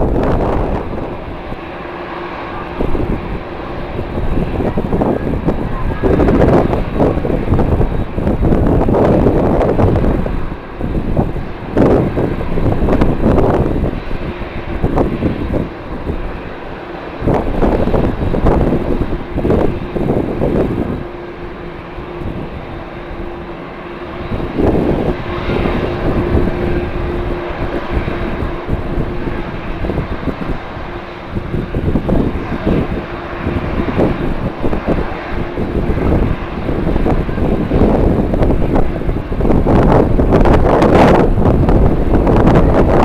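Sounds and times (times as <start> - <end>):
jet engines humming: 0.0 - 43.0
wind buffeting microphone: 0.0 - 43.0.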